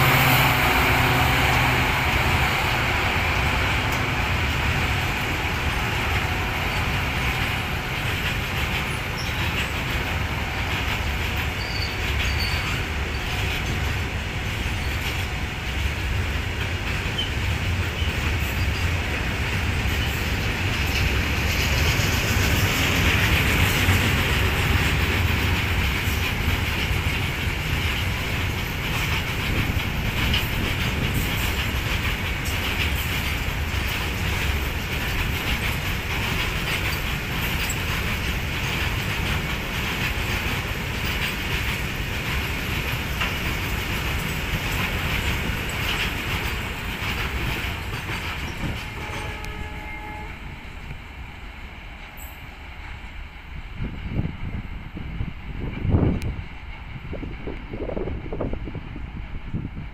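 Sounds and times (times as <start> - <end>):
train wheels clattering over rails: 0.0 - 54.6.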